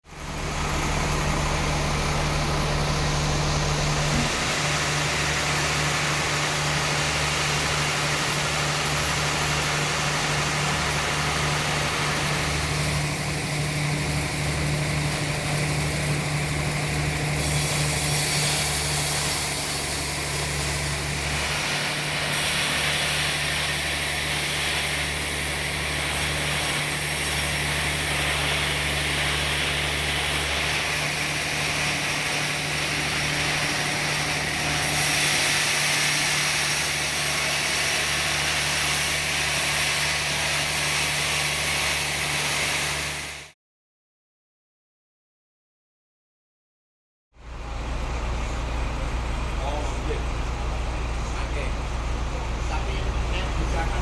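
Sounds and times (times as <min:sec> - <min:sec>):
low motor hum: 0:00.0 - 0:43.4, 0:47.4 - 0:54.0
machinery hissing: 0:00.2 - 0:43.5.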